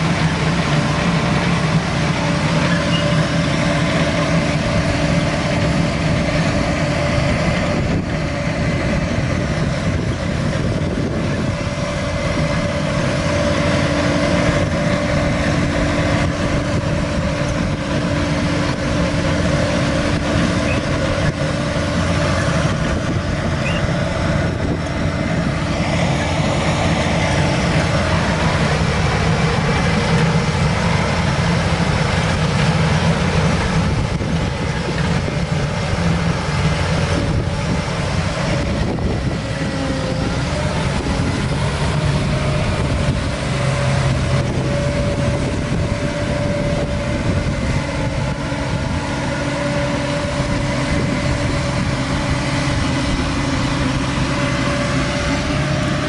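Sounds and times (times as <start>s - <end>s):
harvester diesel engine and machinery: 0.0s - 56.0s.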